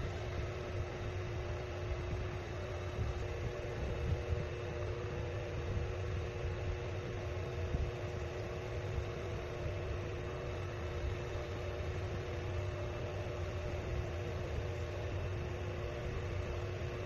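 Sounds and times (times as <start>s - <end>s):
faint steady tones: 0.0s - 17.0s
machine-like hum and hiss: 0.0s - 17.0s.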